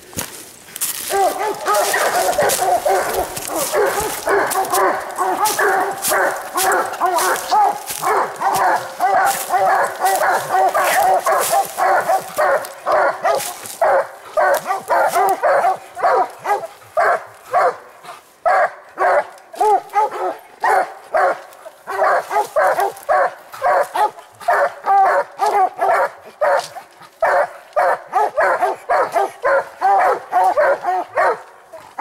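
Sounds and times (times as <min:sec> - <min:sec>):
hounds barking: 0:00.9 - 0:32.0.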